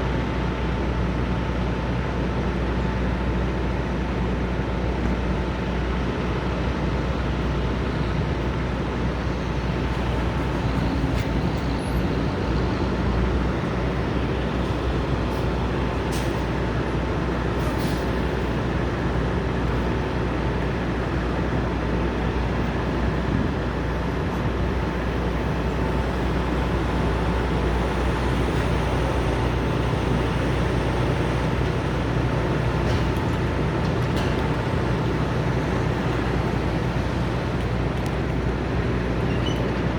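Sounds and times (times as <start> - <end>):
idling diesel trucks rumbling: 0.0 - 39.9.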